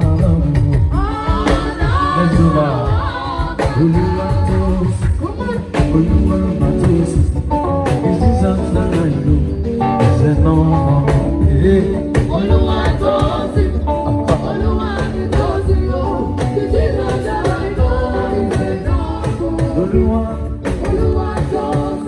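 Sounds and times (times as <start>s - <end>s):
live gospel band with singers: 0.0s - 22.0s
steady drum beat: 0.0s - 22.0s.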